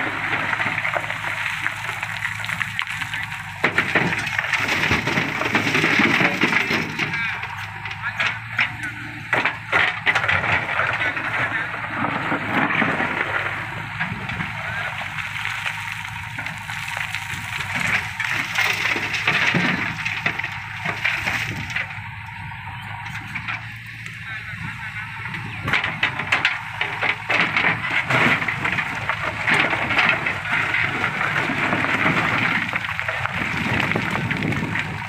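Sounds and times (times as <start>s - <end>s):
stones clattering against steel bucket: 0.0s - 22.0s, 25.6s - 35.0s
diesel engine running: 0.0s - 35.0s.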